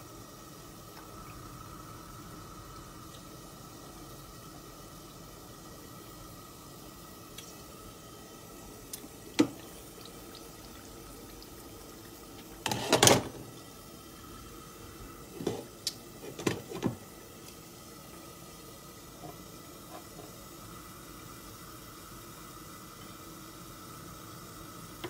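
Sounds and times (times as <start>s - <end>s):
curry sizzling and bubbling: 0.0s - 25.0s.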